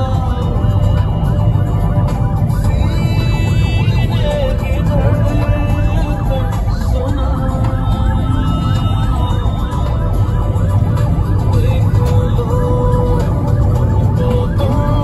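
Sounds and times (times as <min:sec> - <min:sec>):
background music with bass: 0:00.0 - 0:15.0.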